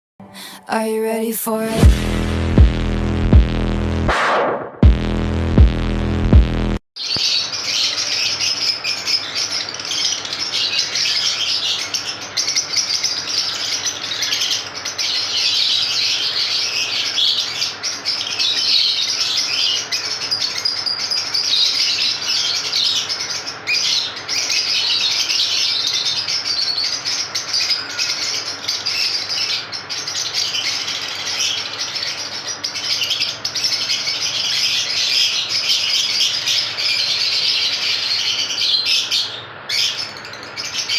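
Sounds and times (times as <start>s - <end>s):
lovebirds chattering: 7.0s - 40.9s.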